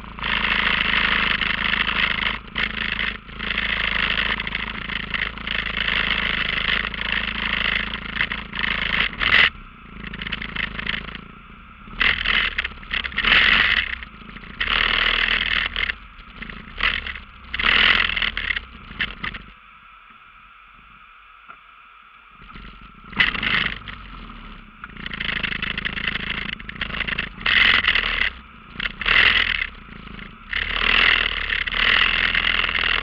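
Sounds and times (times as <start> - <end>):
atv engine running: 0.0 - 19.6, 22.4 - 33.0.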